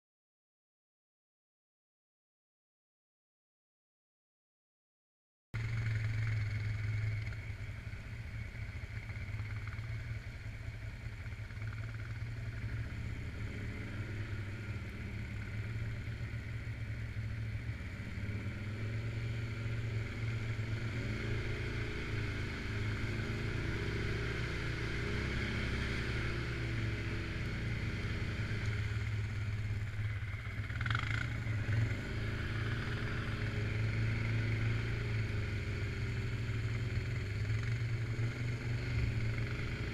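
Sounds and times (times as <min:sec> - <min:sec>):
atv engine revving: 0:05.6 - 0:39.9.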